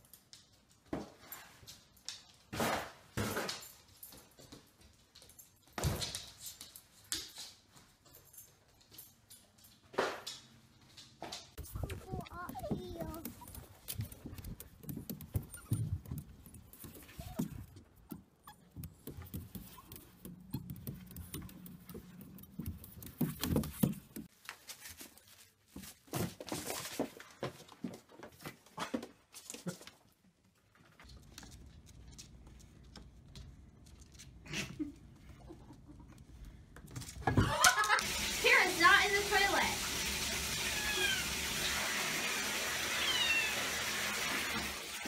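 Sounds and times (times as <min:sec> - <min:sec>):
paws and claws on hard surfaces: 0:00.0 - 0:37.6.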